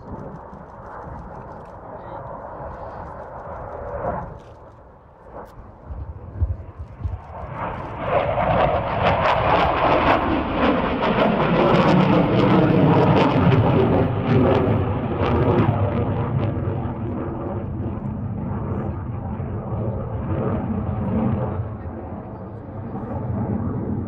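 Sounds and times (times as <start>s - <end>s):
fighter jet flying overhead: 0.0s - 24.0s.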